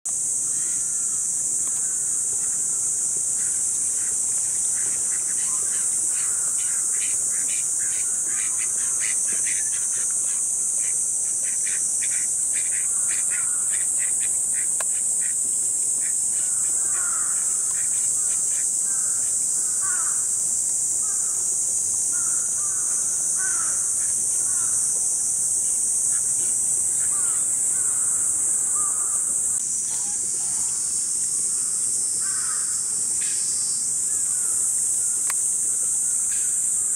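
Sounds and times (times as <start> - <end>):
cicadas chorus: 0.1 - 36.9.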